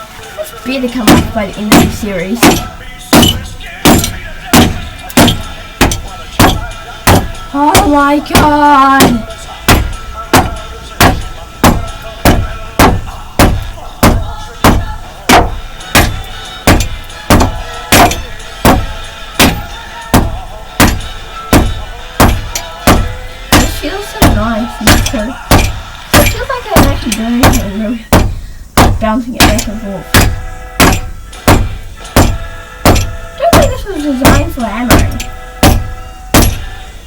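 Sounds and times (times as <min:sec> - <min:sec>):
hammer clanking on padlock: 0:01.0 - 0:36.8.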